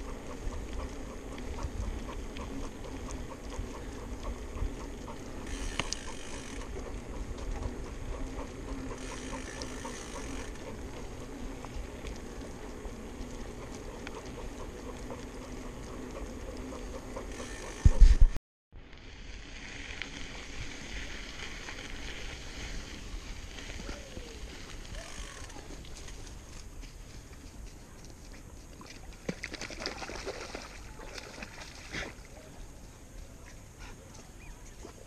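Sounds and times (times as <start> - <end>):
wind rumbling on microphone: 0.0 - 9.0, 9.6 - 29.3
bike rolling on pavement: 0.0 - 35.0.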